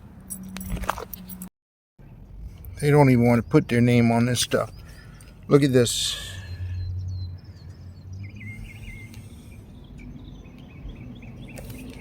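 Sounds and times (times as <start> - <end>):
birds chirping: 2.0 - 12.0.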